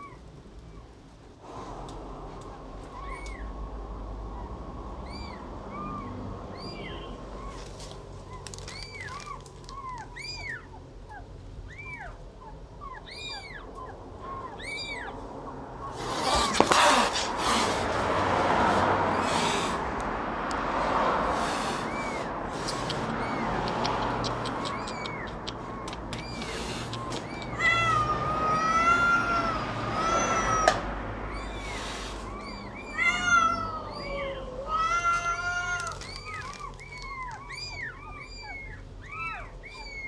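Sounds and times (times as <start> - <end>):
kittens mewing: 2.4 - 20.1, 21.2 - 40.0.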